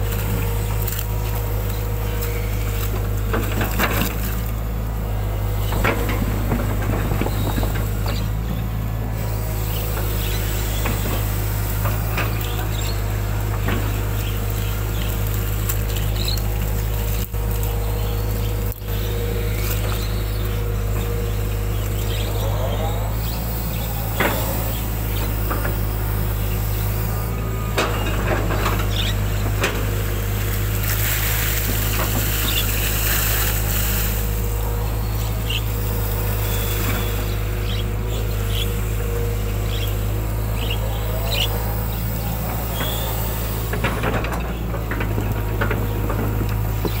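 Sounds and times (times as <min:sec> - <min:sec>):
excavator diesel engine: 0:00.0 - 0:47.0.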